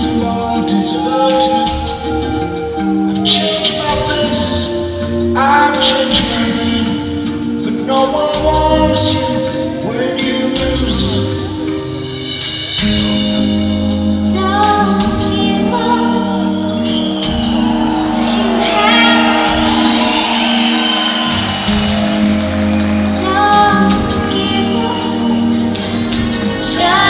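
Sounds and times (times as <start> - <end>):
person singing: 0.0 - 12.1, 14.3 - 17.3, 18.2 - 27.0
live band playing slow song: 0.0 - 27.0.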